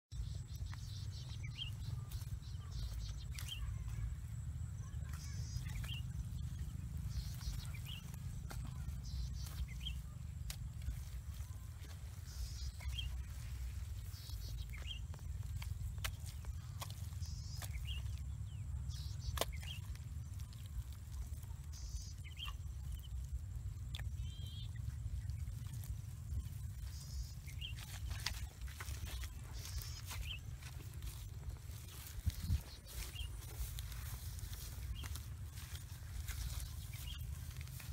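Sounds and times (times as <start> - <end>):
bird chirping: 0.1 - 37.9
low rumble: 0.1 - 37.9.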